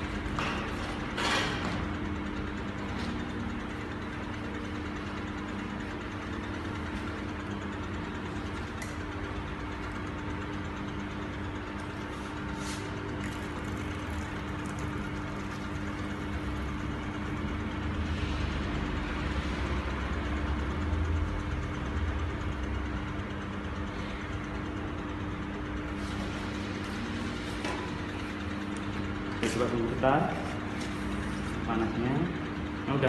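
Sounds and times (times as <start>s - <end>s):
sewing machine mechanical hum: 0.0s - 33.0s.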